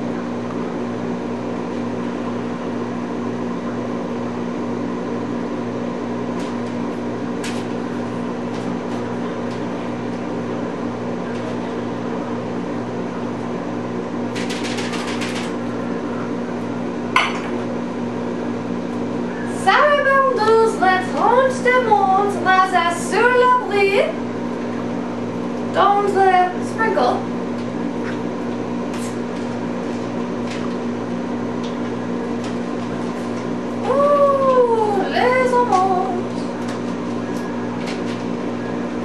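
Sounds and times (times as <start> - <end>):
mechanical hum: 0.0 - 39.0.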